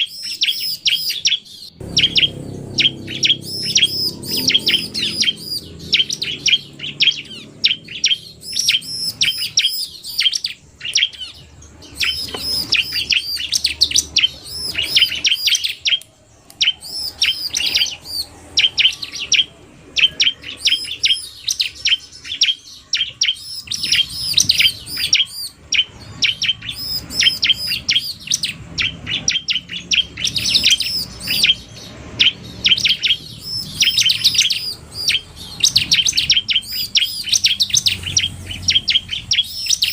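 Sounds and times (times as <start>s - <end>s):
birds chattering: 0.0s - 39.9s
high quick bird chirps: 0.0s - 39.9s.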